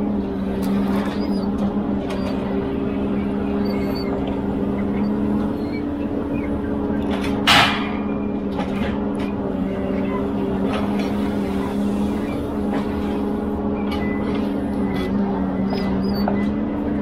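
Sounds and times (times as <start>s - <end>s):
crane loading logs: 0.0s - 17.0s
diesel engine humming: 0.0s - 17.0s.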